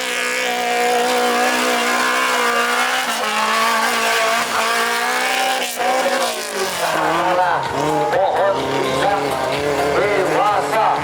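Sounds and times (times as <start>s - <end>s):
engine at high revs: 0.0s - 11.0s.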